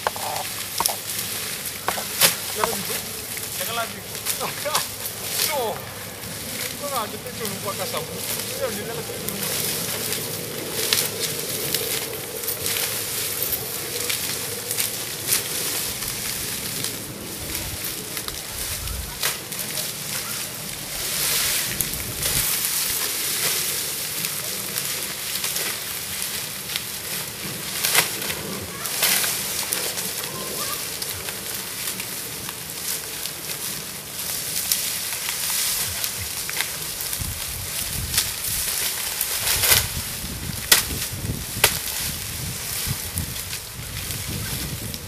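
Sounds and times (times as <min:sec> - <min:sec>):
dry stalks rustling and crackling: 0:00.0 - 0:45.0.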